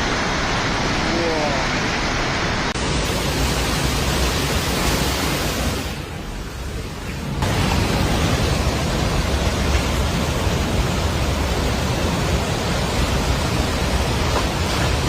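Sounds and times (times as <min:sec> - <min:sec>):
flooded river roaring: 0:00.0 - 0:15.0.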